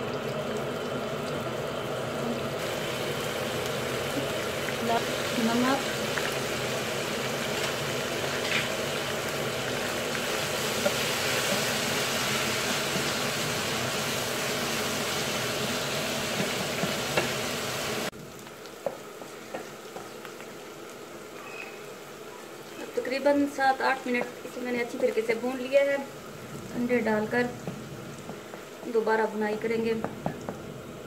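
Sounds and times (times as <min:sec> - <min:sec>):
meat sizzling in hot oil: 0:00.0 - 0:31.0.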